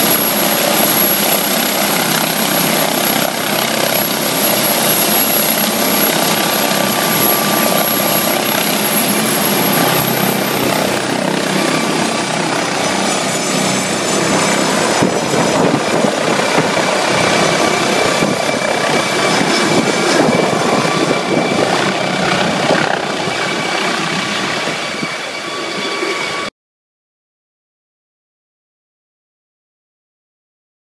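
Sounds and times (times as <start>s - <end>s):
helicopter rotor and turbine: 0.0s - 26.5s
high turbine whine: 0.0s - 26.5s.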